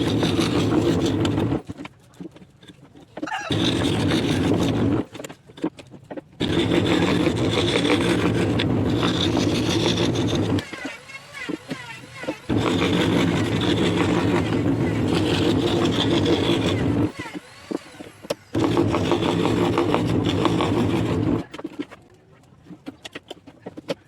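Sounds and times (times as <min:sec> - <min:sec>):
scroll saw cutting wood: 0:00.0 - 0:22.0.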